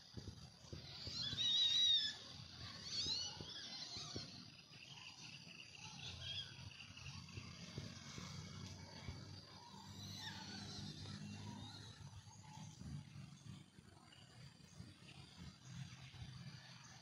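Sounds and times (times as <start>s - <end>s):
high warbling animal calls: 0.5s - 16.0s.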